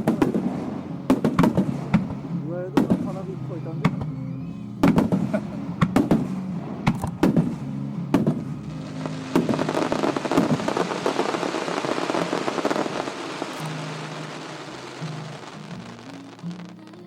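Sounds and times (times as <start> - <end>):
crackling of firework stars: 0.0 - 17.0
fireworks bangs: 0.0 - 17.0.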